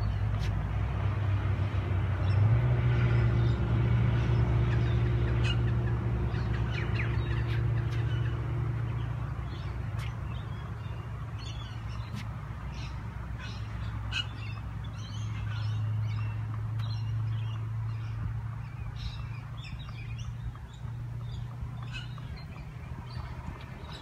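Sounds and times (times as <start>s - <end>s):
low engine hum: 0.0s - 24.0s
bird calls: 4.3s - 24.0s.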